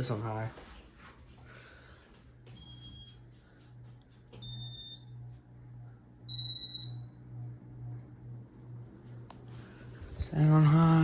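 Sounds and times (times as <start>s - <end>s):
low hum: 1.4s - 11.0s.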